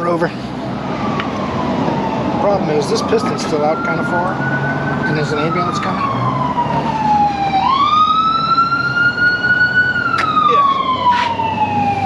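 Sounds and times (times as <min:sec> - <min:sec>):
ambulance siren wailing: 0:00.7 - 0:12.0.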